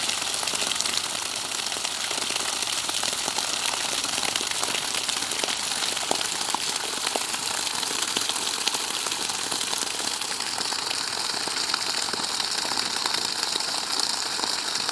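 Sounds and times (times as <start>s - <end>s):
water gushing and splashing: 0.0s - 14.9s.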